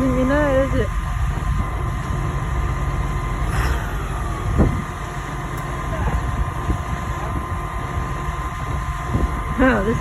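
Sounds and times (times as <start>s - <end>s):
heavy machinery engine rumble: 0.0s - 10.0s.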